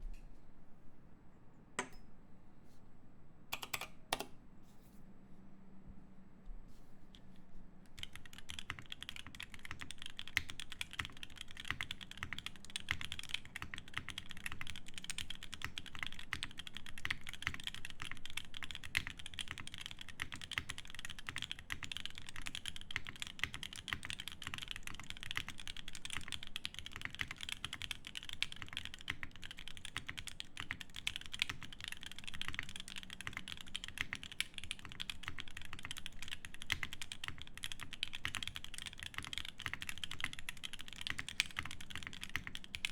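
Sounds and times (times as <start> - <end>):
fast mechanical keyboard typing: 3.5 - 4.3, 7.9 - 42.9.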